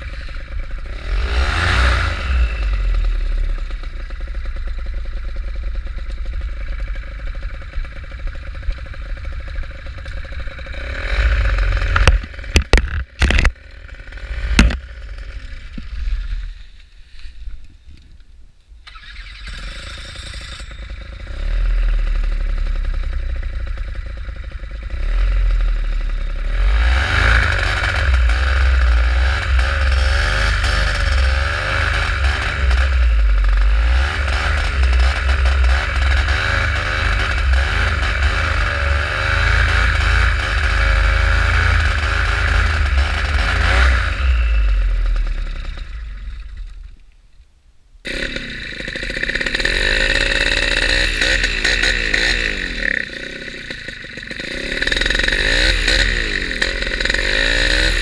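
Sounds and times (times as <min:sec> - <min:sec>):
paramotor engine revving: 0:00.0 - 0:12.6, 0:18.9 - 0:46.8, 0:48.1 - 0:58.0.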